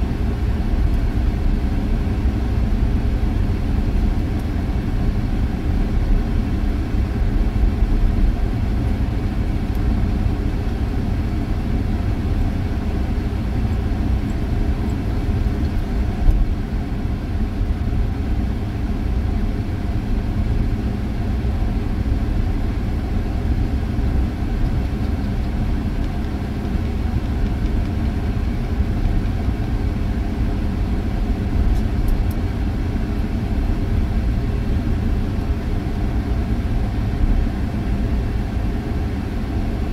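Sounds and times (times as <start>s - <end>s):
engine and tyre rumble: 0.0s - 39.9s.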